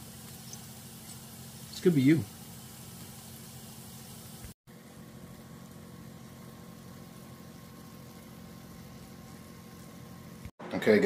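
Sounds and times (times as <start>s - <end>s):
kitchen appliance humming: 0.0s - 10.5s.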